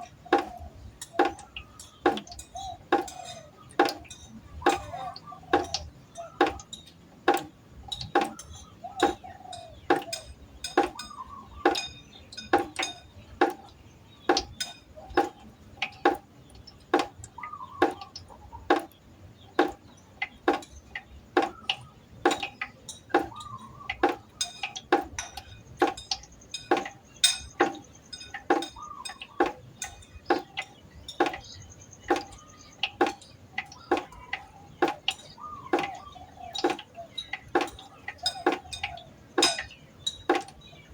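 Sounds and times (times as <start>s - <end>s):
water droplets plinking into pot: 0.0s - 40.9s.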